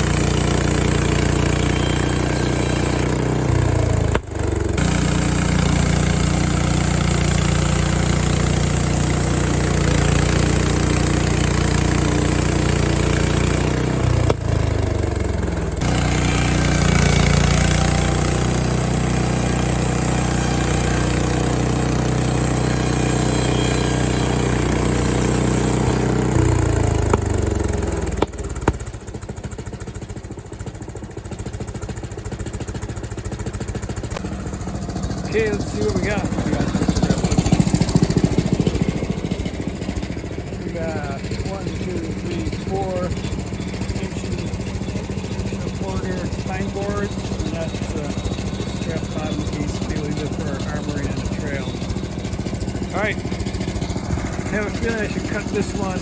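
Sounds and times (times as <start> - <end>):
blade sawing through log: 0.0 - 30.1, 33.6 - 56.0
sawmill gas engine running: 0.0 - 56.0.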